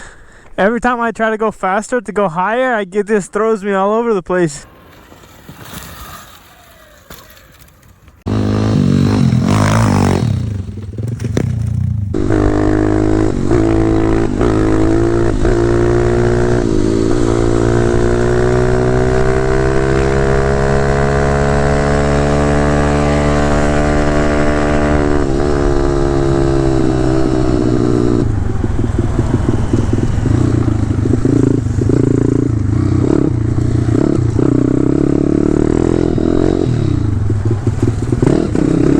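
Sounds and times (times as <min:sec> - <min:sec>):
motorbike engine revving: 0:04.8 - 0:38.9.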